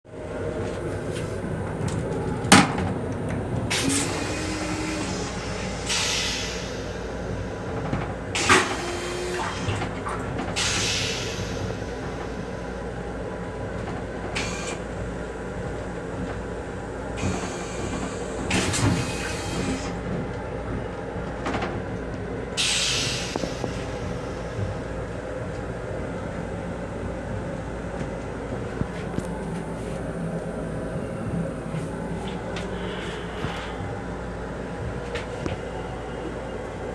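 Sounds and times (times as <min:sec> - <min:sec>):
electric train running hum: 0:00.1 - 0:36.9.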